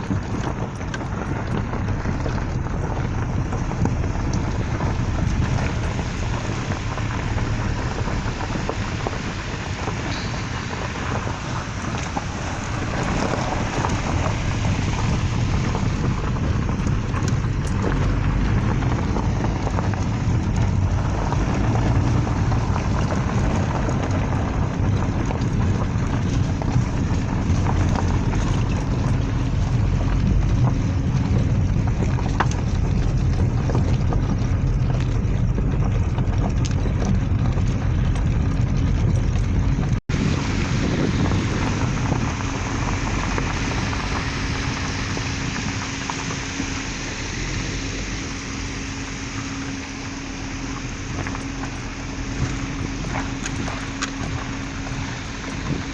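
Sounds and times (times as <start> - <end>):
car engine and tyre noise: 0.0 - 55.9
steady hum: 0.0 - 55.9.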